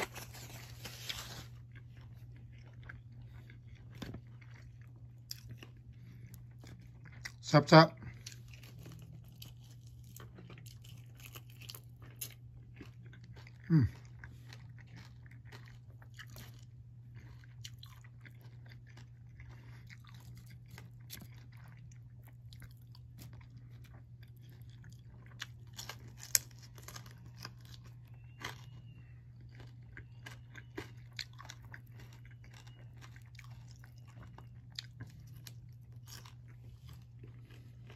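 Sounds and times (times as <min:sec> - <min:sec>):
chewing and crunching: 0:00.0 - 0:37.9
low steady hum: 0:00.0 - 0:37.9.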